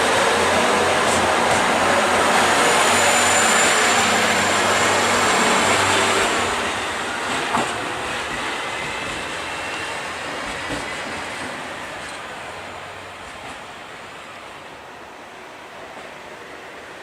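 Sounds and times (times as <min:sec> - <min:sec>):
train running: 0:00.0 - 0:17.0.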